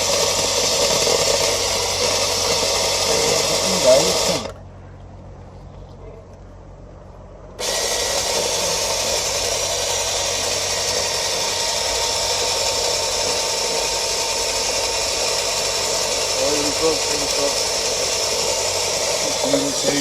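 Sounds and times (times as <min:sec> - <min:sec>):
electric winch motor whining: 0:00.0 - 0:04.6, 0:07.6 - 0:20.0.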